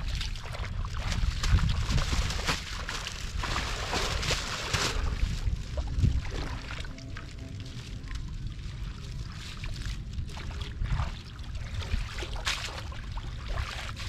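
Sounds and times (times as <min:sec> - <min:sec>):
shallow water sloshing and splashing: 0:00.0 - 0:14.0.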